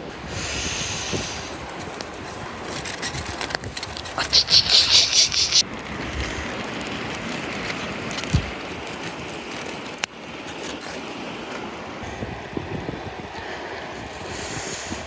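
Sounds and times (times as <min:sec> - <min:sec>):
mountain stream running: 0:00.0 - 0:15.0.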